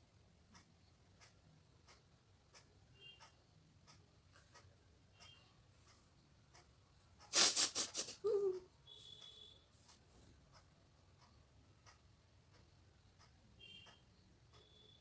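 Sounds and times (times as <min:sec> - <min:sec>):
faint regular ticks: 0:00.4 - 0:08.1, 0:08.9 - 0:15.0.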